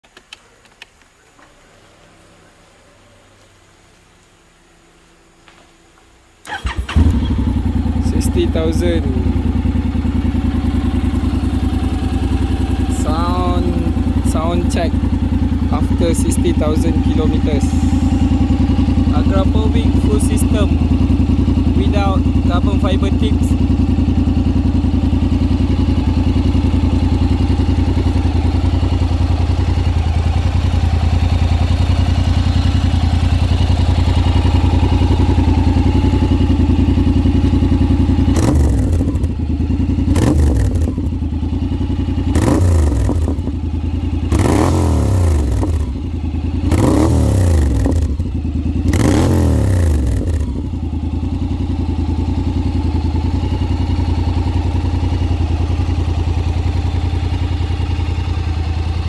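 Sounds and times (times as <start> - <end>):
motorcycle engine idling: 1.1 - 59.0
engine throttle blips: 1.6 - 59.0.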